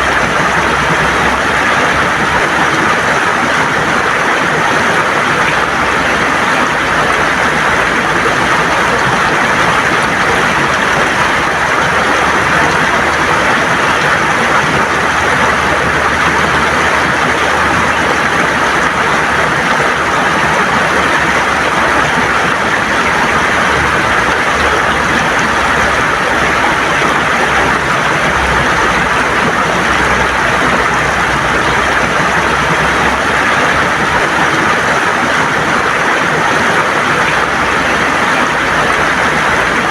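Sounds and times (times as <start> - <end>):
river water gurgling over stones: 0.0 - 39.9.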